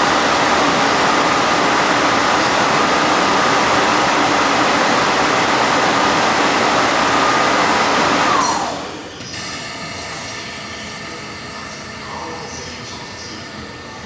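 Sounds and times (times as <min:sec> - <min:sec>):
air compressor rushing and whining: 0:00.0 - 0:14.0.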